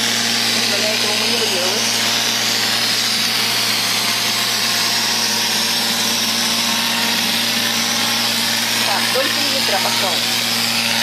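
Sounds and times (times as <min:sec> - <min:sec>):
robot vacuum motor hum: 0:00.0 - 0:11.0.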